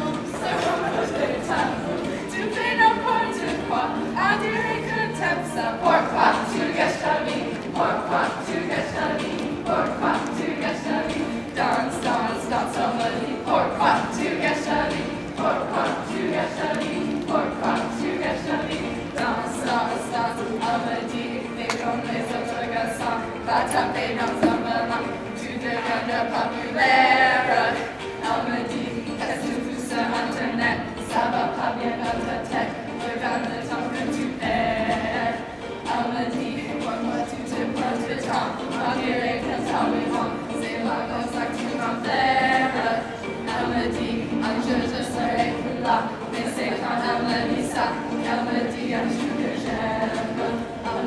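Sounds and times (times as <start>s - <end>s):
group singing pop song: 0.0s - 51.0s.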